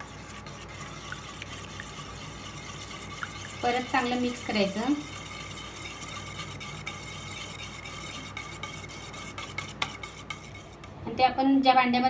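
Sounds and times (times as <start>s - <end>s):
whisk swishing liquid in bowl: 0.0s - 10.9s
whisk wires ticking on steel bowl: 0.9s - 10.7s.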